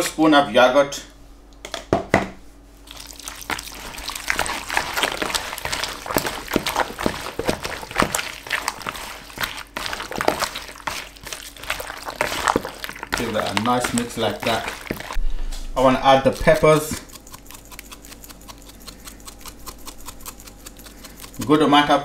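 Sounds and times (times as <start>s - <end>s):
wet squelching and slapping: 2.8s - 15.2s, 16.1s - 21.6s.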